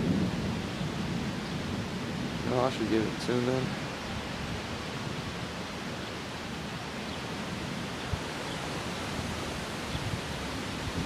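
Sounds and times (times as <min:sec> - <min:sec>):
storm wind blowing: 0:00.0 - 0:11.0.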